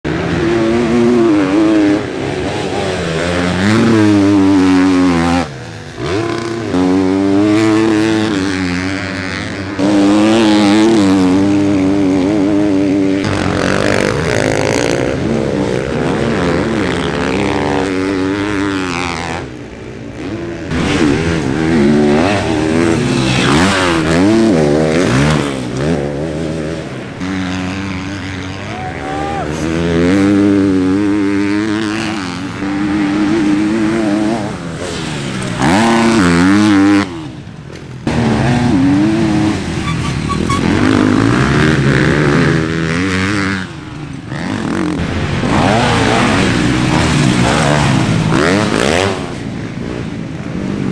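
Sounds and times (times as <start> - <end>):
motocross bike engine revving: 0.1 - 50.9.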